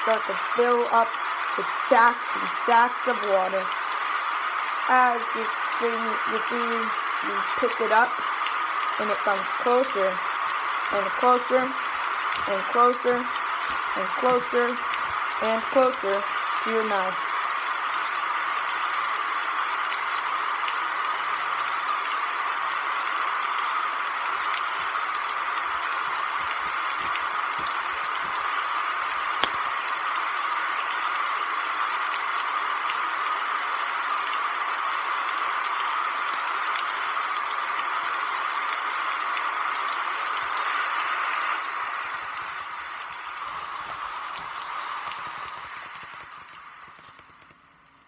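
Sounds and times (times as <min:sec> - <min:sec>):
rain-like pattering rattles: 0:00.0 - 0:48.0.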